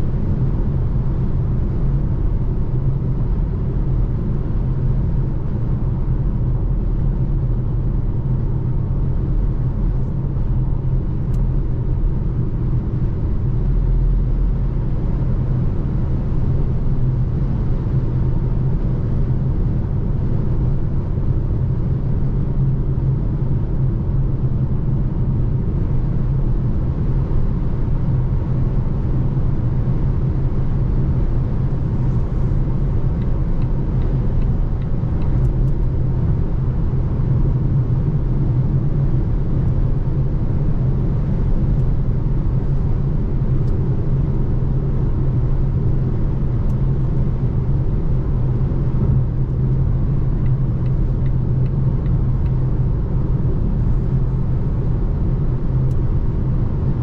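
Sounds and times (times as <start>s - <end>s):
road and tyre rumble: 0.0s - 57.0s.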